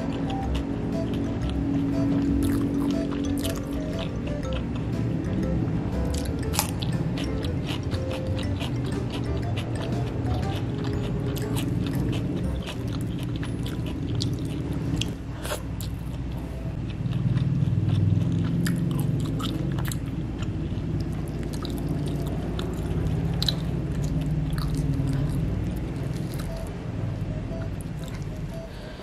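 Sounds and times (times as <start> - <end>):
close chewing and mouth smacks: 2.2 - 4.9, 6.1 - 26.7.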